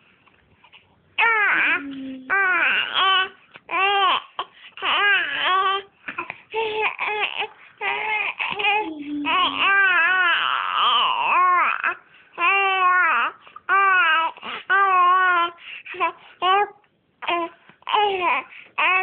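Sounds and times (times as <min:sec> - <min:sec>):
baby vocalising: 0:01.2 - 0:19.0.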